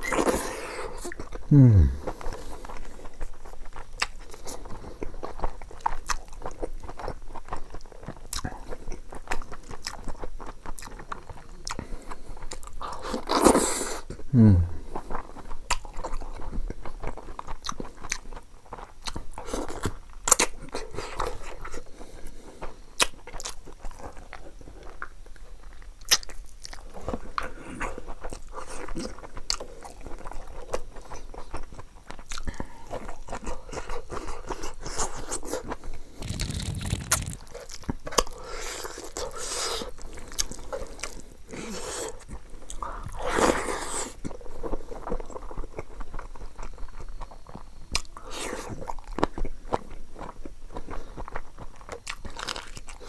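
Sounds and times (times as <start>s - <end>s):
wet chewing mouth sounds: 0.0s - 53.0s.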